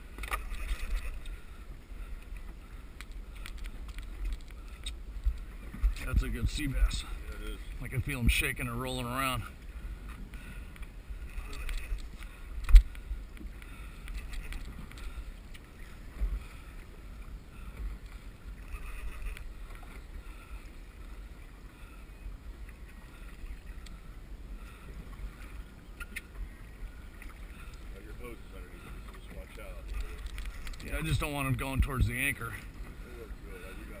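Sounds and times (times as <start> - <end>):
water sloshing against kayak: 0.0 - 34.0
wind rumbling on microphone: 0.0 - 34.0.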